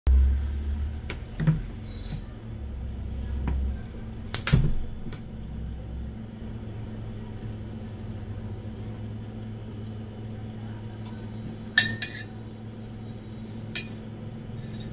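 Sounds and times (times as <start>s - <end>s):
steady low hum: 0.1s - 14.9s.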